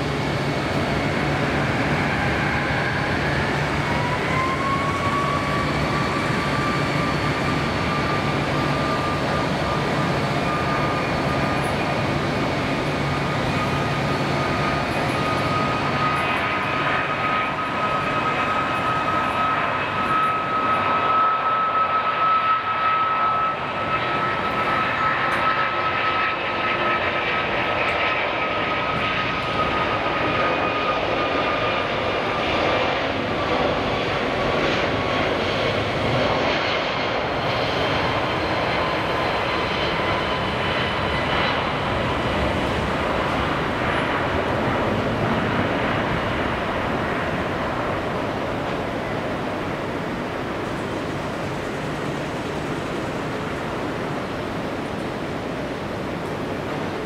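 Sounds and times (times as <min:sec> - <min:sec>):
jet engines roaring at takeoff: 0:00.0 - 0:57.0.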